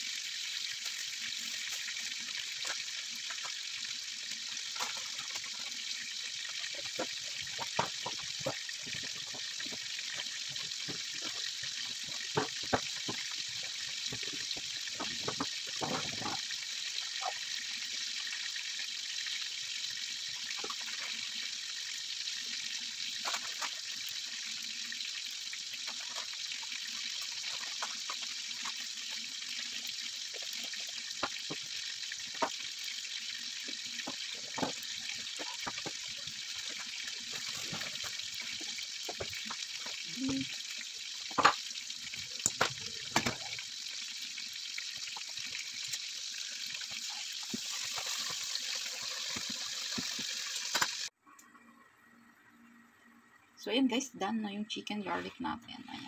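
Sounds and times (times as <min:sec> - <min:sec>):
chicken sizzling in a pan: 0:00.0 - 0:51.2.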